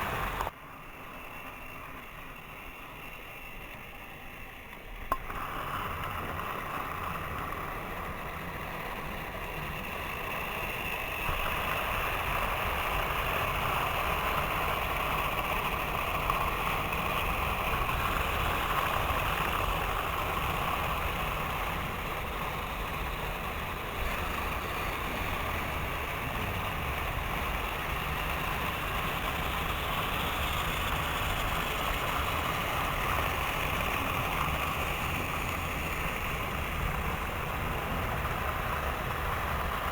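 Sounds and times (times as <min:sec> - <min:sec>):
wheels rumbling on rails: 0:00.0 - 0:39.9.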